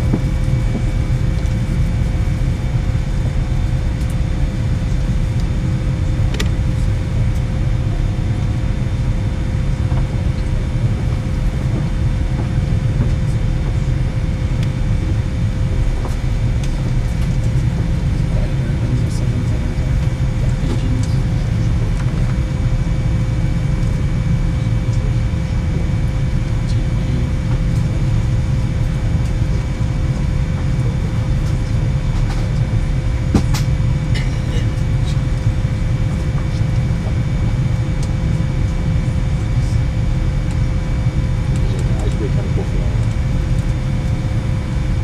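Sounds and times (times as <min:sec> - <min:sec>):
aircraft cabin rumble: 0:00.0 - 0:45.0.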